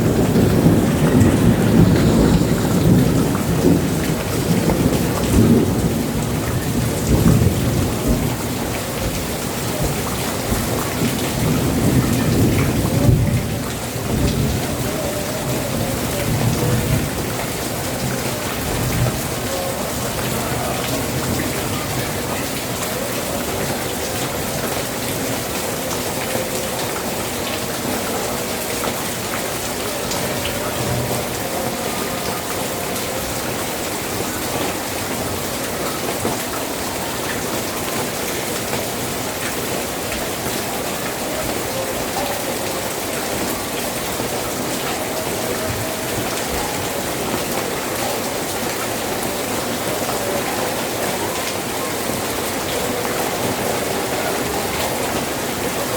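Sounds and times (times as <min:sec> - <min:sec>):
heavy rain falling: 0:00.0 - 0:55.9
raindrops ticking on surfaces: 0:00.0 - 0:55.9.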